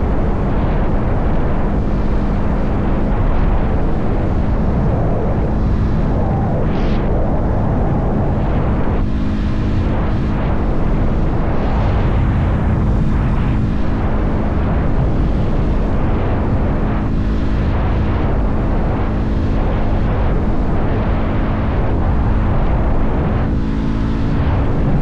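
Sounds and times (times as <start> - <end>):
wind rush on microphone: 0.0 - 25.0.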